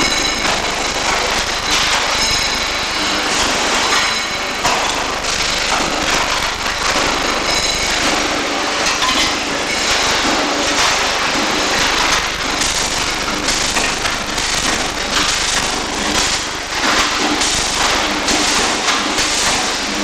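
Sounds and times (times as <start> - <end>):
welding arc crackling: 0.0 - 20.0.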